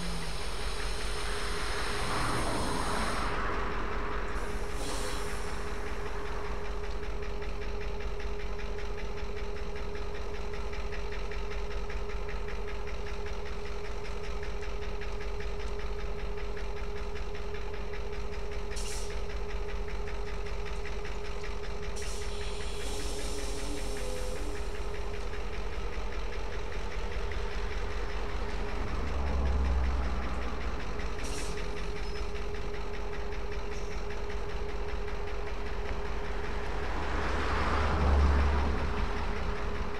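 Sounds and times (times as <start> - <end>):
diesel locomotives idling: 0.0 - 39.9.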